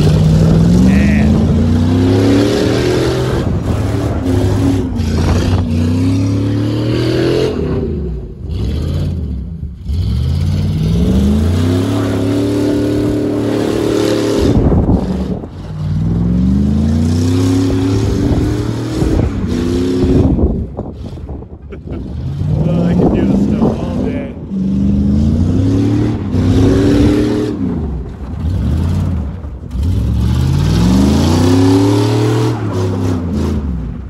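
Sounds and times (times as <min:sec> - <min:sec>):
muffler dragging: 0:00.0 - 0:33.8
truck engine revving: 0:00.0 - 0:34.0.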